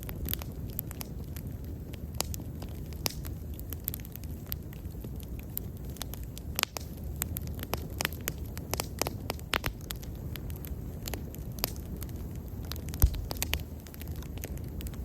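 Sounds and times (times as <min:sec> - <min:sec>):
bonfire crackling and popping: 0:00.0 - 0:15.0
low rumble of flames: 0:00.0 - 0:15.0.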